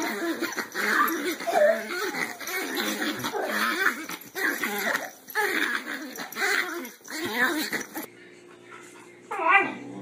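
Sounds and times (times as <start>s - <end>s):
dog whining: 0.0s - 8.1s.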